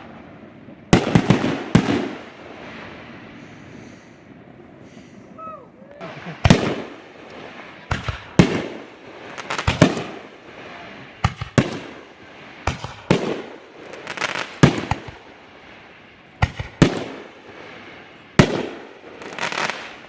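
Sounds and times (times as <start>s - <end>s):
fireworks bangs echoing: 0.0s - 20.0s.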